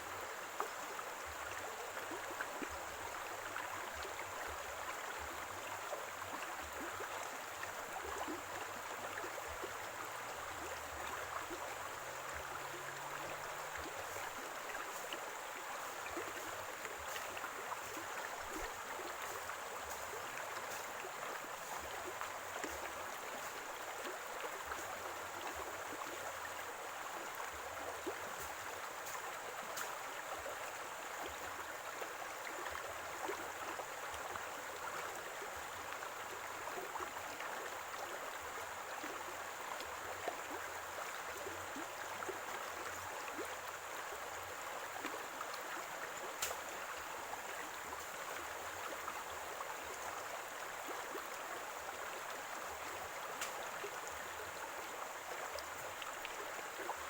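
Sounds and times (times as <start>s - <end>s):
stream gurgling and splashing: 0.0s - 57.0s.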